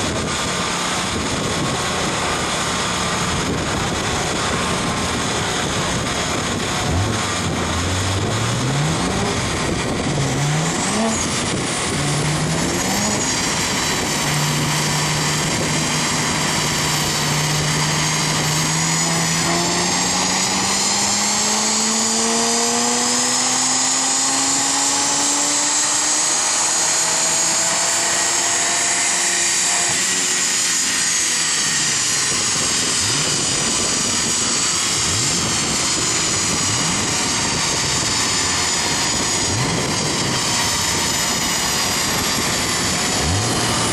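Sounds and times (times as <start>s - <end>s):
car engine revving: 0.0s - 43.9s
dyno rollers winding down: 0.0s - 43.9s
high whine: 0.0s - 43.9s.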